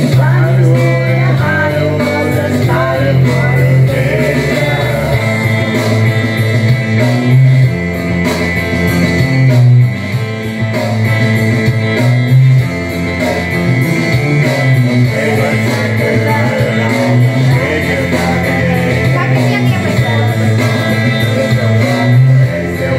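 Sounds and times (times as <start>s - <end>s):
rock karaoke backing track: 0.0s - 22.9s.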